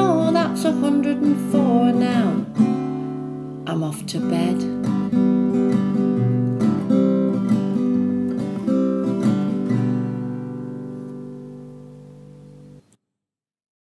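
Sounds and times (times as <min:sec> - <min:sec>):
acoustic guitar chords strummed: 0:00.0 - 0:12.9.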